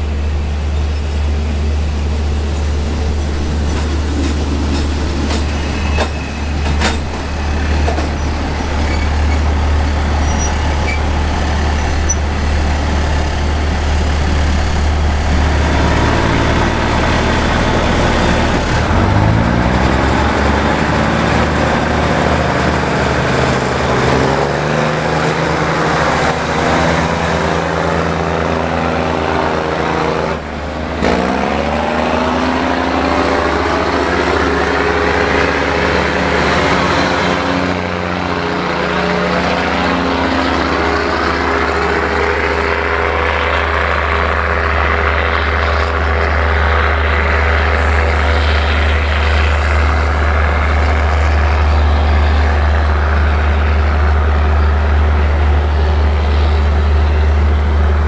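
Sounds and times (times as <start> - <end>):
diesel railcar engines revving: 0.0 - 58.0
low diesel rumble: 0.0 - 58.0.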